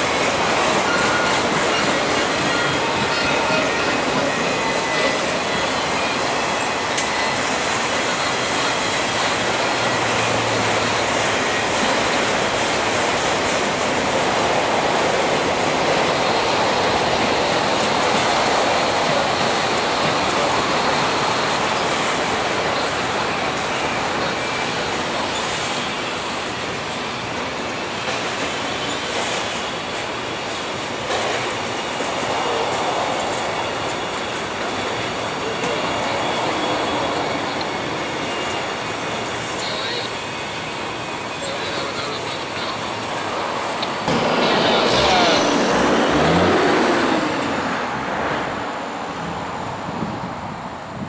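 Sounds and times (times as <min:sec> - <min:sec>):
faint high wheel squeal: 0:00.0 - 0:14.7, 0:15.8 - 0:43.9
freight cars rumbling and rattling: 0:00.0 - 0:51.0.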